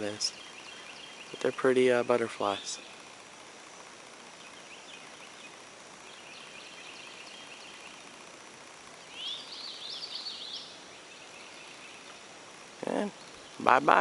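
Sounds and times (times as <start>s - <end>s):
songbird chirping: 0.0s - 14.0s
steady background hiss: 0.0s - 14.0s.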